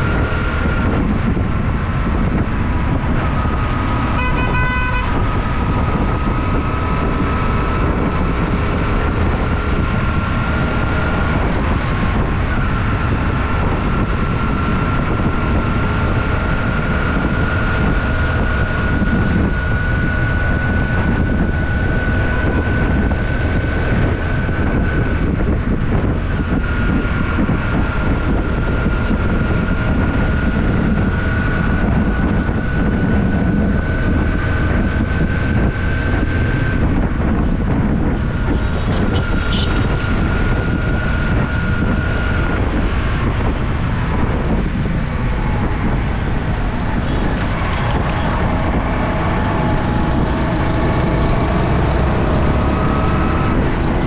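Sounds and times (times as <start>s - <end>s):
motorbike engine running: 0.0s - 54.0s
wind rumble on microphone: 0.0s - 54.0s.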